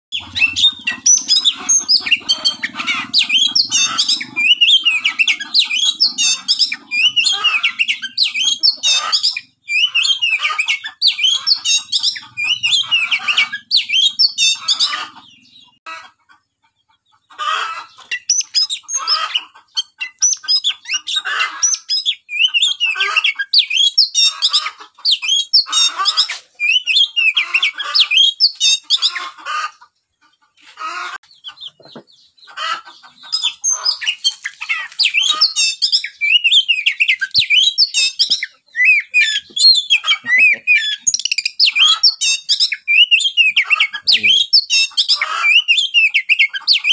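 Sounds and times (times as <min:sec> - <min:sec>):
birds chirping and squawking: 0:00.1 - 0:46.9.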